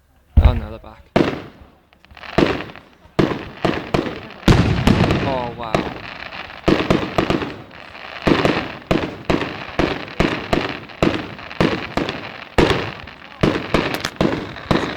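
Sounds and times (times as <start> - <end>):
firework crackling tail: 0.3 - 14.9
firework shells bursting: 0.4 - 14.9.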